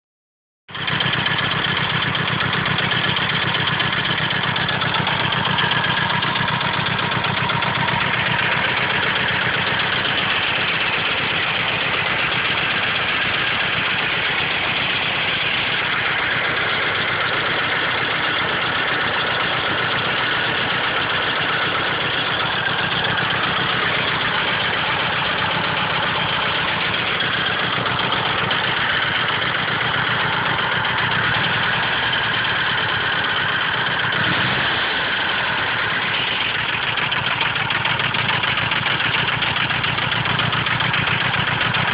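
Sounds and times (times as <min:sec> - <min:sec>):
car engine idling with knock: 0:00.7 - 0:41.9.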